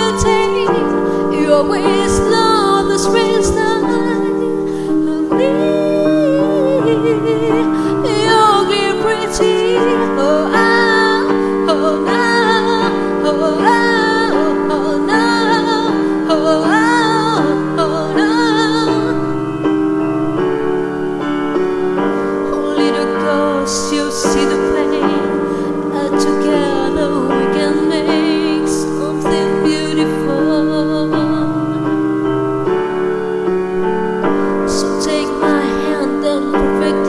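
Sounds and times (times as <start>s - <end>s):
woman singing: 0.0s - 19.7s, 22.4s - 32.0s, 34.6s - 37.0s
piano chords: 0.0s - 37.0s.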